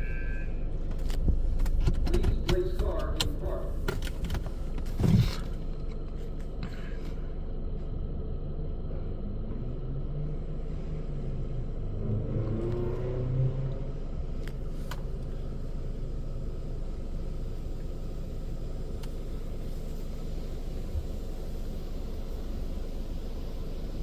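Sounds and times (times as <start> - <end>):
car engine running inside cabin: 0.0 - 24.0.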